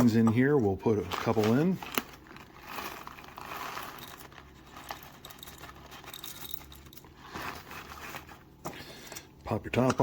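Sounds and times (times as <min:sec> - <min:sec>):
coffee beans pattering: 0:00.1 - 0:08.3.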